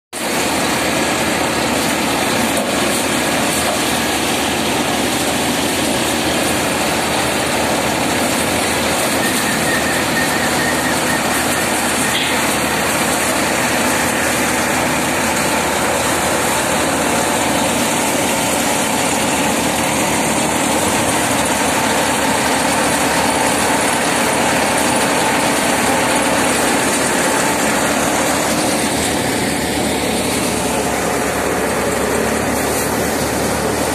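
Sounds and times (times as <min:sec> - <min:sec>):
thresher machine running: 0:00.2 - 0:33.9.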